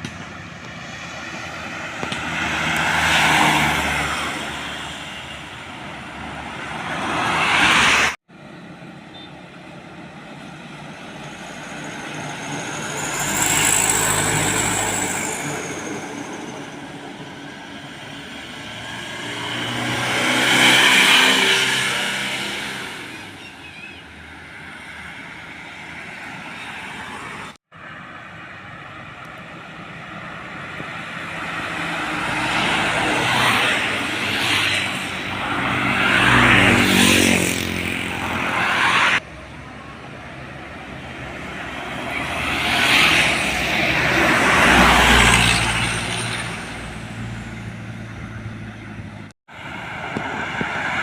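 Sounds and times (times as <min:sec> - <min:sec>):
heavy vehicles passing by: 0:00.0 - 0:51.0.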